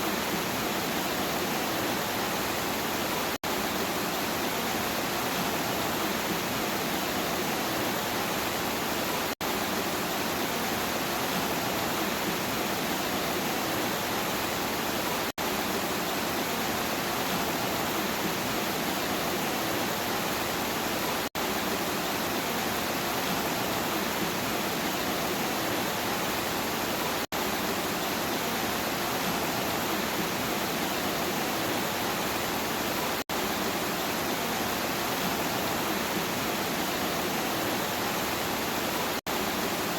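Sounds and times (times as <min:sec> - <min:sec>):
dense rain hiss: 0:00.0 - 0:39.9.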